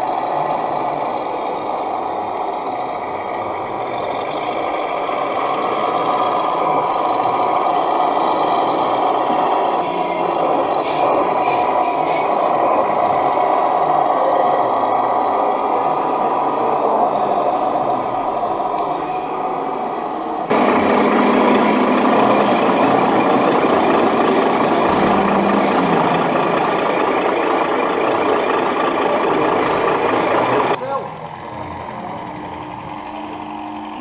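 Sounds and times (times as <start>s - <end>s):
truck engine sound running: 0.0s - 34.0s.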